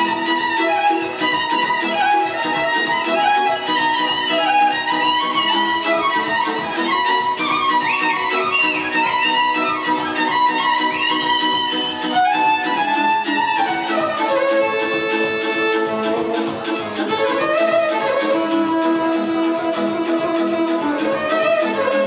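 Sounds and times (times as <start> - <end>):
steady beat: 0.0 - 10.9, 12.0 - 22.0
violin melody: 0.0 - 22.0.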